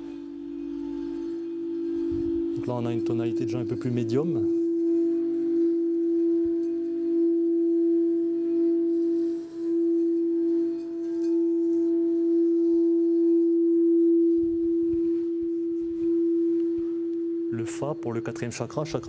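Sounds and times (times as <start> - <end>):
singing bowl sustained tone: 0.0 - 19.0.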